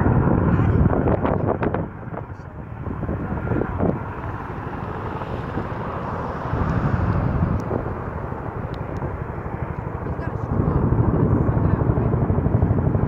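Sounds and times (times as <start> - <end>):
helicopter rotor and turbine noise: 0.0 - 13.0.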